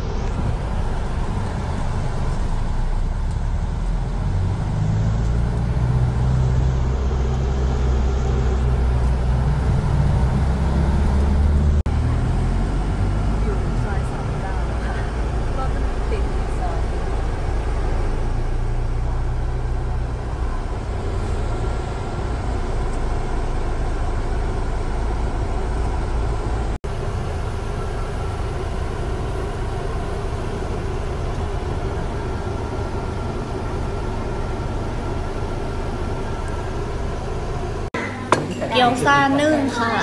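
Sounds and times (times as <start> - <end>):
van engine and road noise: 0.0 - 40.0.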